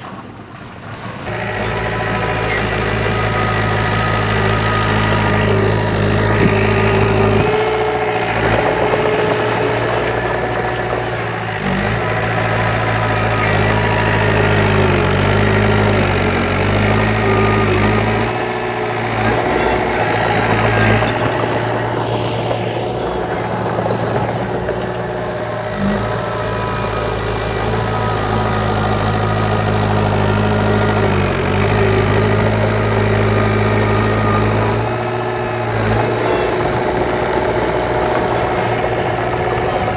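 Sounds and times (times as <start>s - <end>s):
diesel engine of earthmoving machine: 0.0s - 39.9s.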